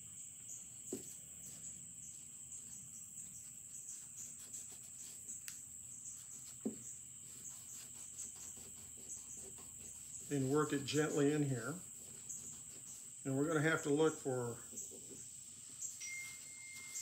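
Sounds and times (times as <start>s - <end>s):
gear wiped on paper towel: 0.9s - 17.0s
steady high-pitched chirring: 1.4s - 17.0s.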